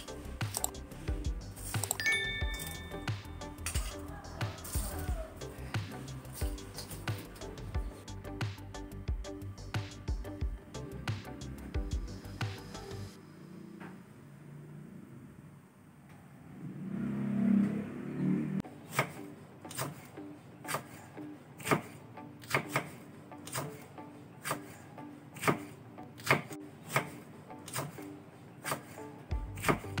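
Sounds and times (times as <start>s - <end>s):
music: 0.0s - 13.2s, 18.6s - 30.0s.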